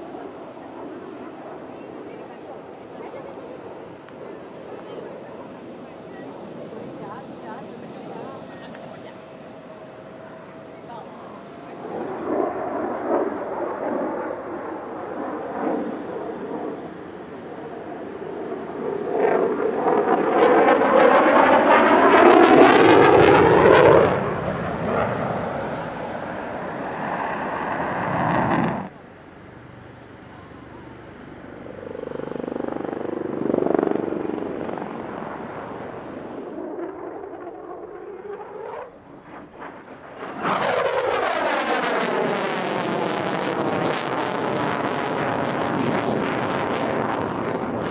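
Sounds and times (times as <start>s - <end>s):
fighter jets passing: 0.0s - 47.9s
helicopters: 0.0s - 47.9s.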